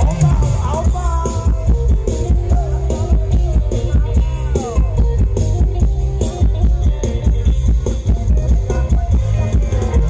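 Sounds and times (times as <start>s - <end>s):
band music through sound system: 0.0s - 10.0s.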